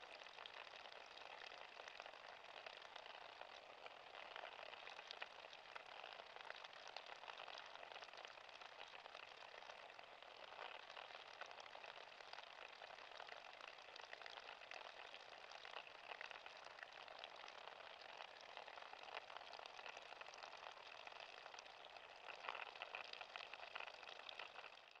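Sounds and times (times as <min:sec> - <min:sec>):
tiny drips and pops: 0:00.0 - 0:25.0.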